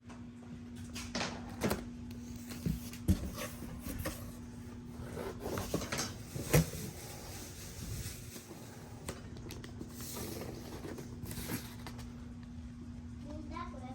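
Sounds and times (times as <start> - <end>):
steady low hum: 0.0 - 13.9
objects being handled: 0.9 - 12.2.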